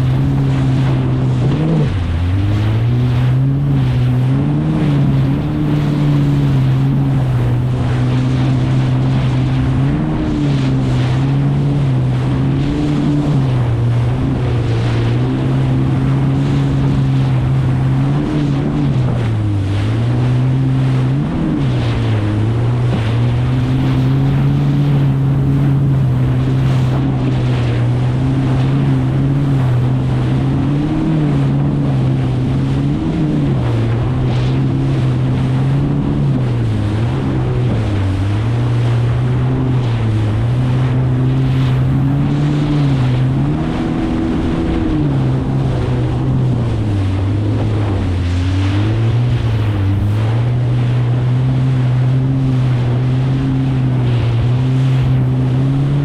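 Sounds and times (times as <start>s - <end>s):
jet ski engine running: 0.0s - 56.0s
wind and water rushing: 0.0s - 56.0s.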